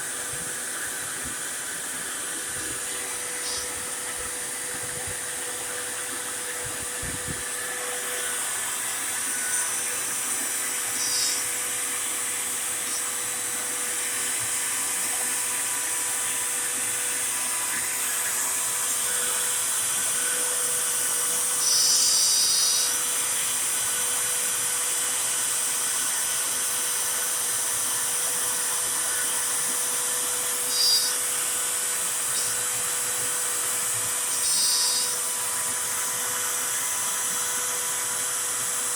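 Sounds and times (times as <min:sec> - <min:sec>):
dust collection vacuum running: 0:00.0 - 0:38.9
router spindle high-pitched whine: 0:00.0 - 0:38.9.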